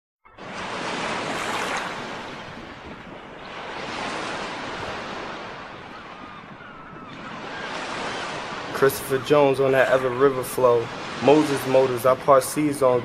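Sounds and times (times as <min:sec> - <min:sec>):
ocean surf washing in: 0:00.3 - 0:13.0.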